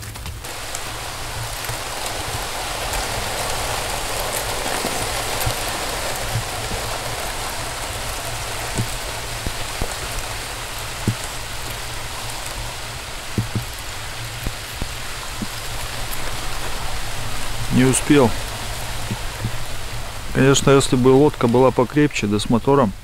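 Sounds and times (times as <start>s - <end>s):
river rushing hiss: 0.0s - 23.0s
light ice knocks: 0.1s - 19.9s.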